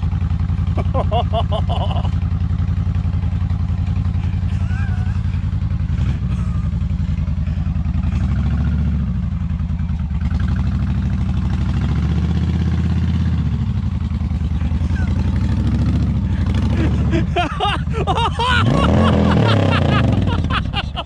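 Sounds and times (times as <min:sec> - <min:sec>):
motorcycle engine pulsing: 0:00.0 - 0:21.0.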